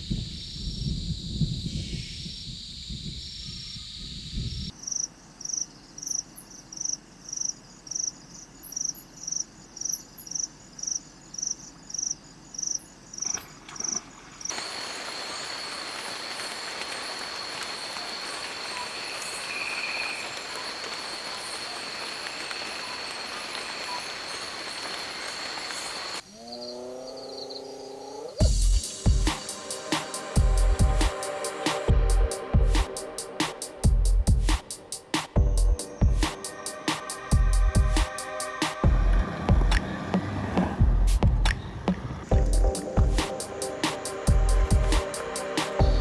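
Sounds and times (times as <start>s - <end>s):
insects low throbbing: 0.0s - 5.6s, 14.6s - 46.0s
insect high chirps: 0.0s - 38.8s
insect drone with high whine: 0.0s - 39.8s, 42.4s - 46.0s.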